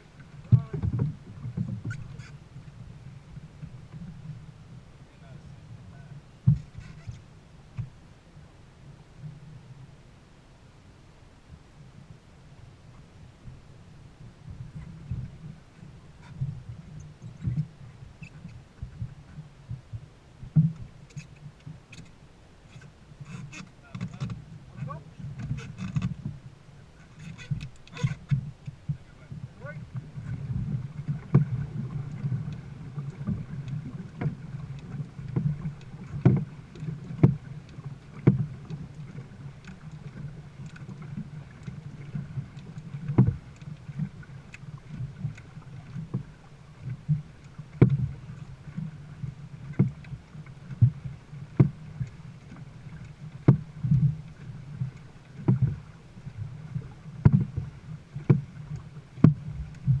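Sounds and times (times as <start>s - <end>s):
paddles pulling through water: 0.0s - 60.0s.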